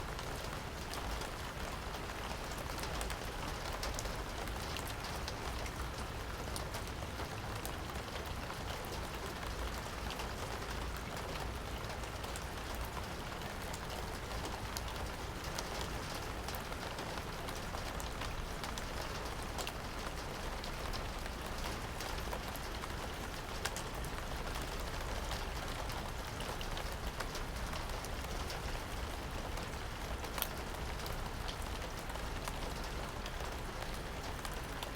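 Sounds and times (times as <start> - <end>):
raindrops ticking on a surface: 0.0 - 34.9
steady rain falling: 0.0 - 34.9.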